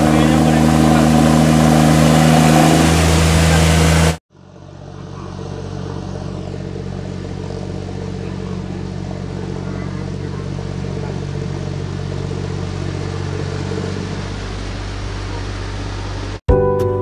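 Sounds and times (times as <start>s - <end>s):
loud steady tones: 0.0s - 16.4s
tractor diesel engine running: 0.0s - 16.4s.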